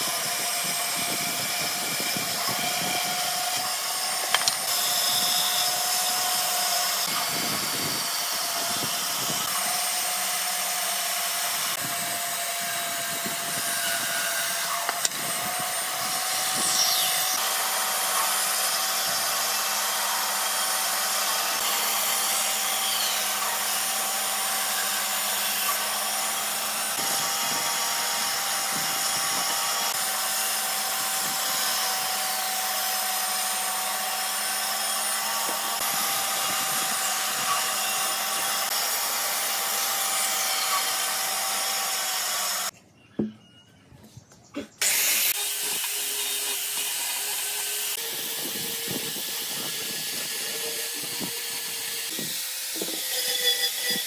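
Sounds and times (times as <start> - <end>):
power tool whining on wood: 0.0 - 43.3, 44.8 - 54.0.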